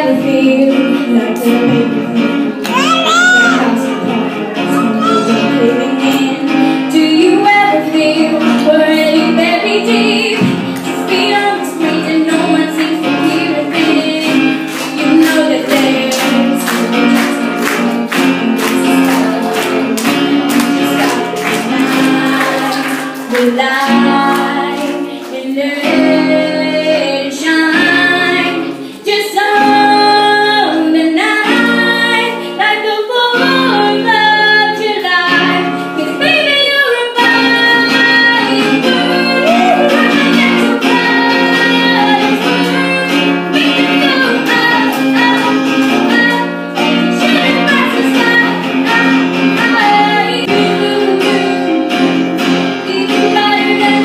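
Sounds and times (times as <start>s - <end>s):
acoustic guitar strumming: 0.0s - 54.0s
girl singing: 0.0s - 54.0s.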